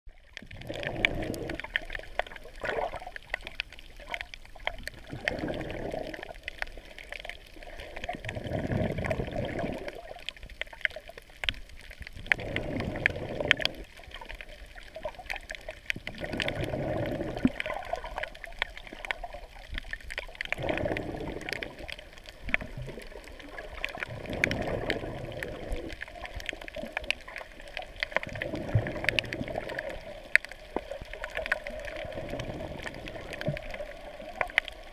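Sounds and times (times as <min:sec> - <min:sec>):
faint crackling clicks: 0:00.1 - 0:34.9
muffled underwater sloshing: 0:00.1 - 0:34.9.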